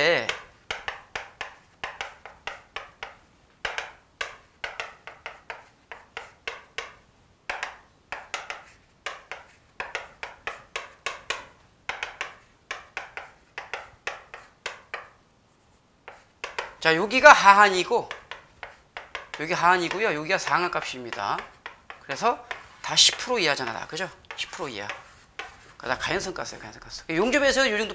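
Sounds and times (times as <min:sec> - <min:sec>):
chalk writing on chalkboard: 0:00.2 - 0:27.9.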